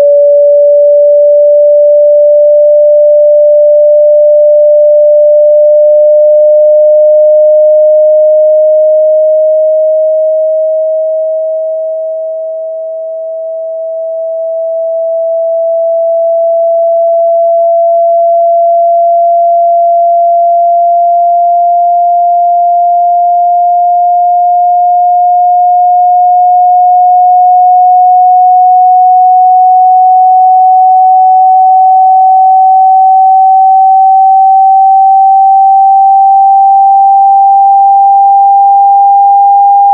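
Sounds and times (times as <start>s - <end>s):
electronic sine tone rising: 0.0s - 39.9s.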